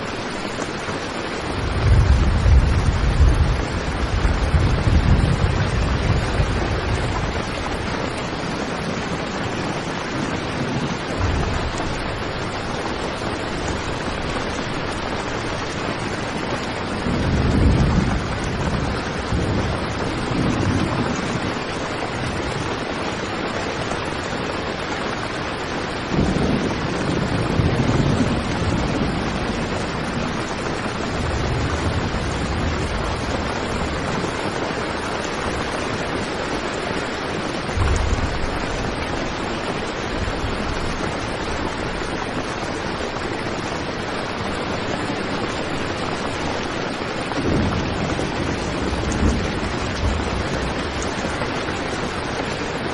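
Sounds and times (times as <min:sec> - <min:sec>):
heavy rain drumming on tent: 0:00.0 - 0:52.9.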